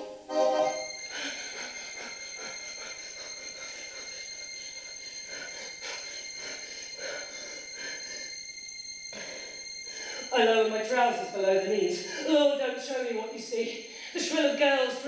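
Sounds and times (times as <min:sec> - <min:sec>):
high-pitched electronic ringing tone: 0:00.0 - 0:12.8.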